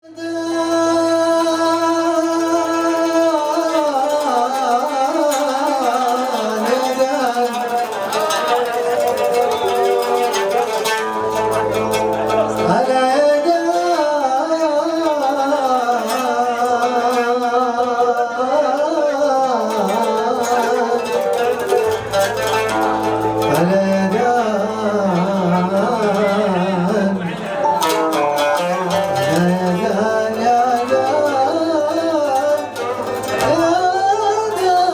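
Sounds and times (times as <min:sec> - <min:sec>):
ornamented wavering melody: 0:01.2 - 0:34.9.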